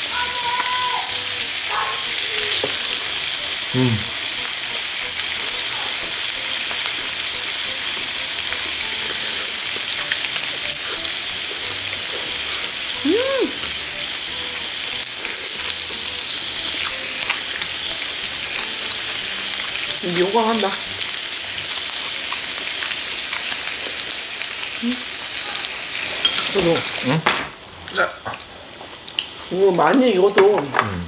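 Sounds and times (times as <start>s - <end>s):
beef sizzling on a grill: 0.0s - 31.0s.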